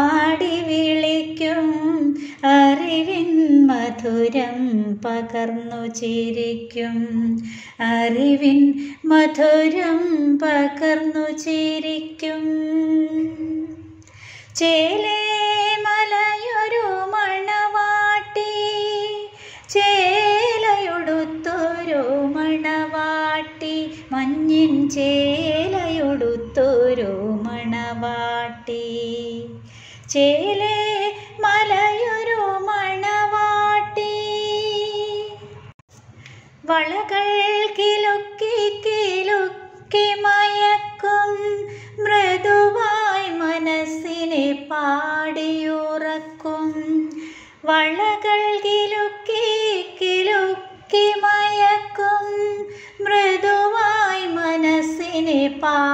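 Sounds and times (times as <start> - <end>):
woman singing: 0.0 - 35.7, 36.6 - 55.9.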